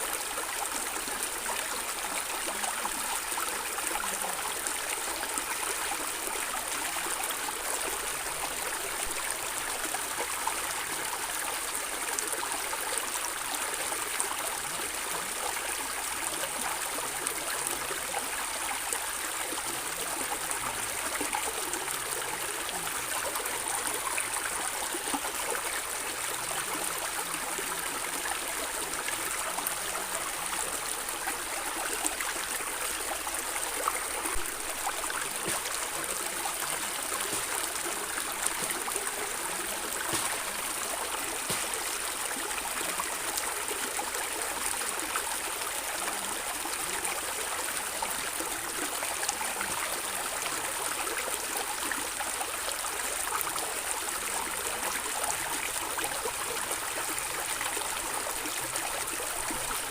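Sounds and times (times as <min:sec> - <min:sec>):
stream water flowing and gurgling: 0:00.0 - 0:59.9.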